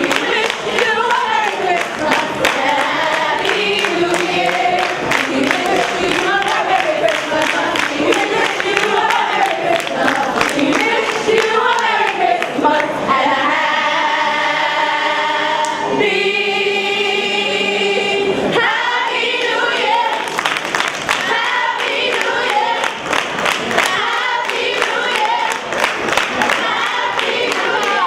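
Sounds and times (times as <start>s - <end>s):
choir singing unaccompanied: 0.0s - 28.0s.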